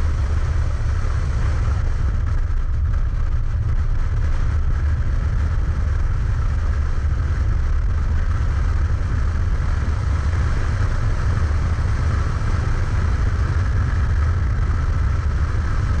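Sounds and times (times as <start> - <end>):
car engine at speed: 0.0 - 16.0
wind rumble on microphone: 0.0 - 16.0.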